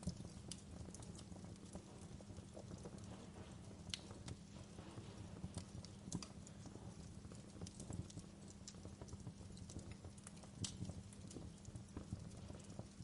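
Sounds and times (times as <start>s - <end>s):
fire crackling and popping: 0.0s - 13.0s
low rumble of fire: 0.0s - 13.0s.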